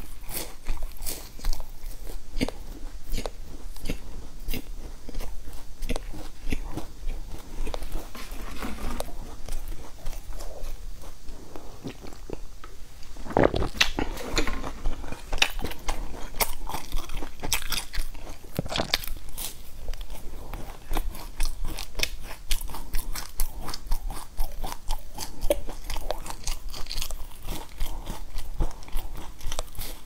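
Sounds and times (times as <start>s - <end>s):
chewing crisp puffed rice bars: 0.0s - 30.0s.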